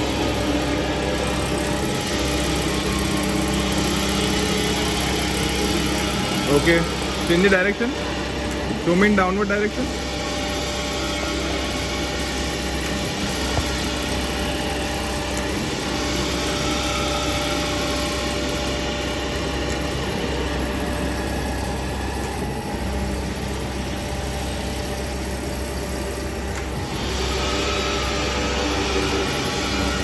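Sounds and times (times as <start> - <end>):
surface grinder humming and whining: 0.0 - 30.0.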